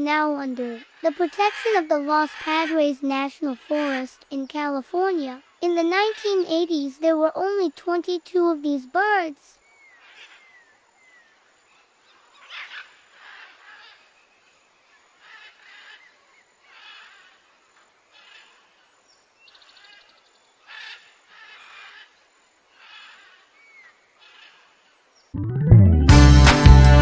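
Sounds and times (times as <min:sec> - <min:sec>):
faint bird calls: 0:00.0 - 0:07.5, 0:08.8 - 0:25.3.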